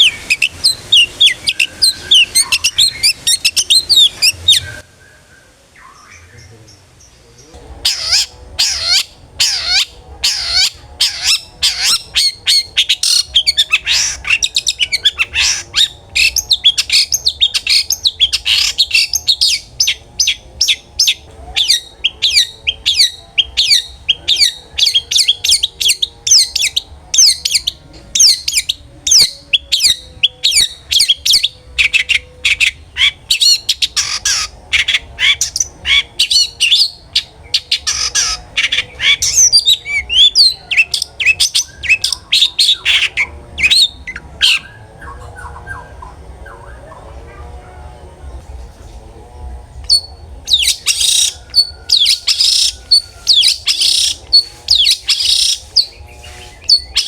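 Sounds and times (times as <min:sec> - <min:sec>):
bird singing harsh notes: 0:00.0 - 0:47.1, 0:49.9 - 0:57.0.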